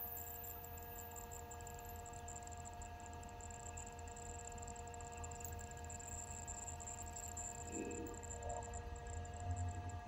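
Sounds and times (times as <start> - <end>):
faint whining tones: 0.0 - 10.0.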